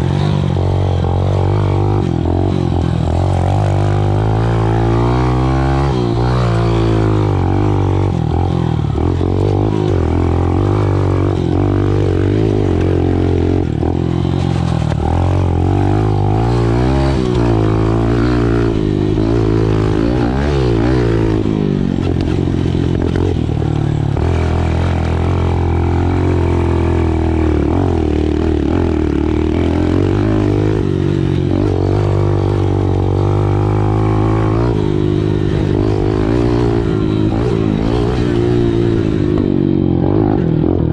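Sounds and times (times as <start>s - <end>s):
small motorcycle engine revving: 0.0s - 40.9s.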